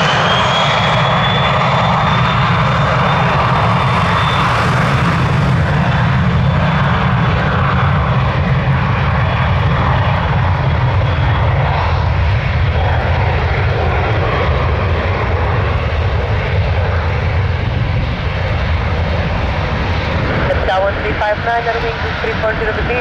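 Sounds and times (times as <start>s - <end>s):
jet taking off: 0.0s - 23.0s.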